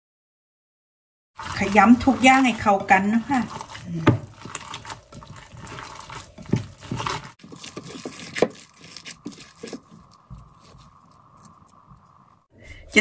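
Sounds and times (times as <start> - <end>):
squelching of kneaded meat: 1.4 - 12.2
gloves crinkling: 1.4 - 12.4.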